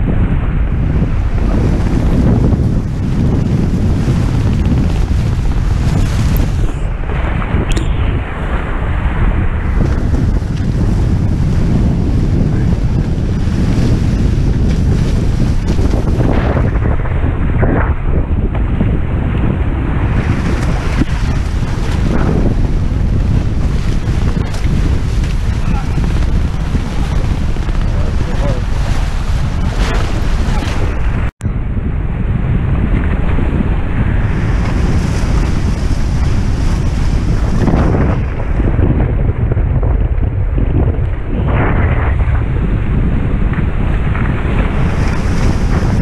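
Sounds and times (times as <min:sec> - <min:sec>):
water rushing past hulls: 0:00.0 - 0:46.0
wind buffeting microphone: 0:00.0 - 0:46.0.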